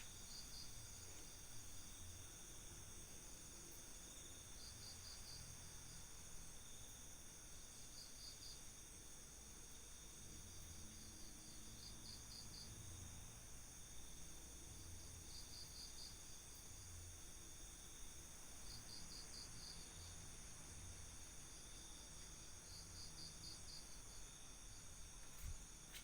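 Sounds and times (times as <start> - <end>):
cricket trills: 0.0 - 26.0
insects droning: 0.0 - 26.0.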